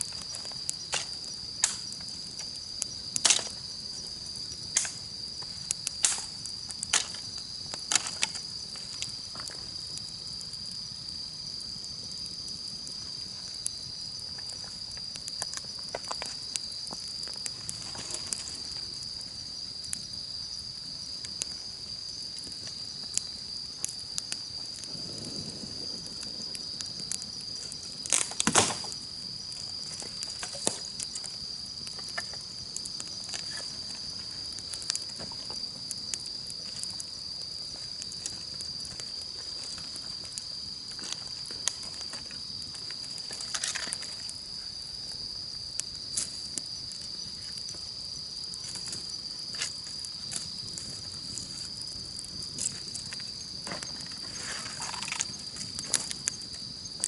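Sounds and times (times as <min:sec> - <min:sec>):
campfire crackling and popping: 0:00.0 - 0:57.0
insects trilling: 0:00.0 - 0:57.0.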